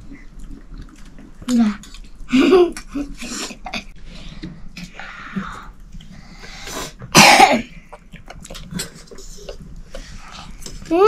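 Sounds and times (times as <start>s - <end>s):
soft breathing and chewing: 0.0s - 11.0s.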